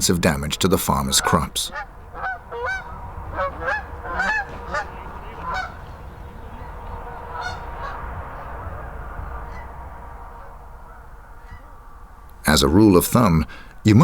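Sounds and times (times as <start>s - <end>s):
low rumble: 0.0s - 13.4s
geese honking: 0.0s - 14.0s.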